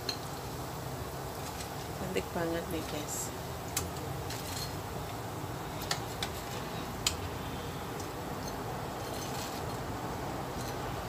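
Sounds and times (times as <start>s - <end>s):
oil sizzling in a pan: 0.0s - 9.4s.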